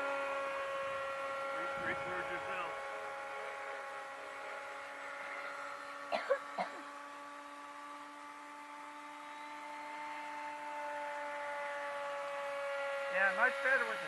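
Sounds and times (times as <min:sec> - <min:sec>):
model airplane motor whining: 0:00.0 - 0:14.0.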